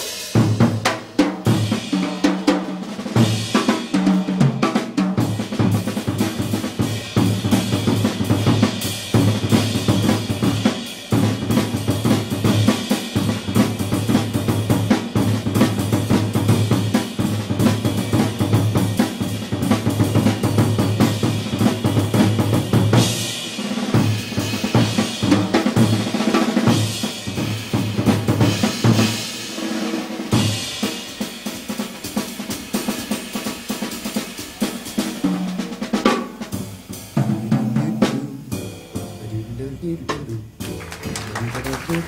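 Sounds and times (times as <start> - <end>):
snare drum strokes and rolls: 0.0 - 39.4, 40.1 - 42.0.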